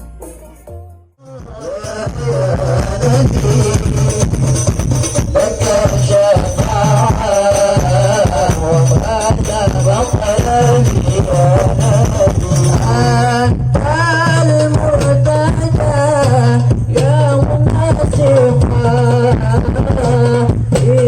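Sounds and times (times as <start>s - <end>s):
heavy pulsing bass beat: 0.0s - 21.0s
loud music with singing: 0.0s - 21.0s.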